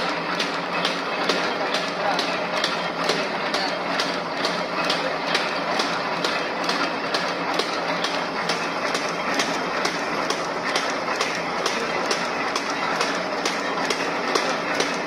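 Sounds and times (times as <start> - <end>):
machine clicking: 0.0 - 15.0
paper bag machine clattering: 0.0 - 15.0.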